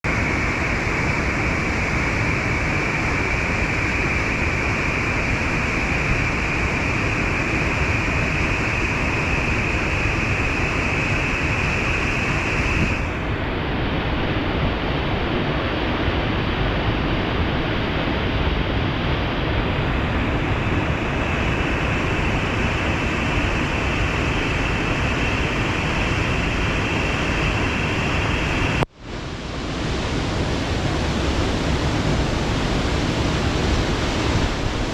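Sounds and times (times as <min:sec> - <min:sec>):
waterfall roaring: 0:00.0 - 0:34.9.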